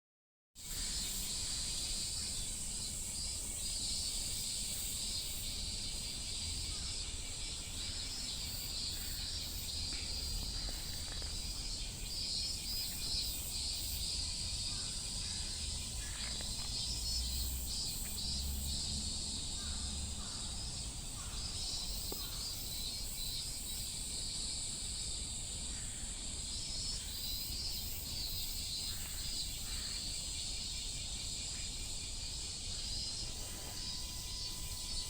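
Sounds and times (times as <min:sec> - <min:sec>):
cicadas singing: 0:00.6 - 0:35.0.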